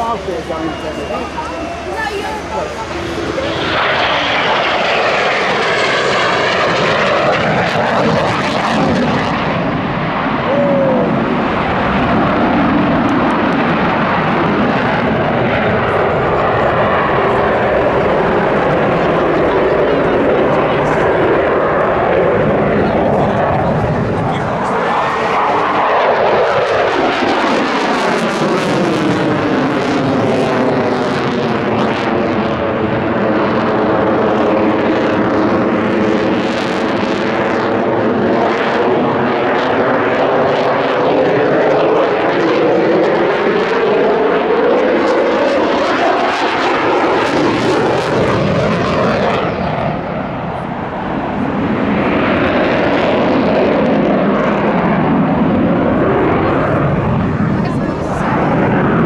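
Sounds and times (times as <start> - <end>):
afterburner roar: 0.0 - 59.0
jet fighter roaring past: 0.0 - 59.0.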